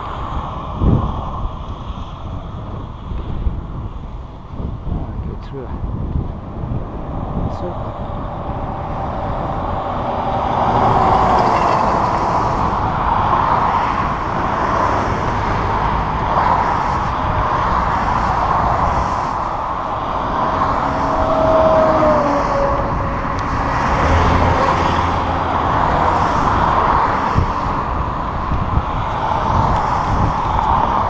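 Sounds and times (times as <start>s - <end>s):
cars passing: 0.0s - 31.0s
wind on microphone: 0.0s - 31.0s.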